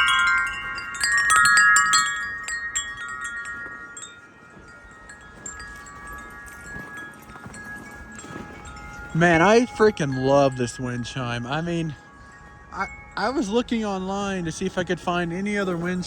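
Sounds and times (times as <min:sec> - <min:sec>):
wind chime ringing: 0:00.0 - 0:16.0.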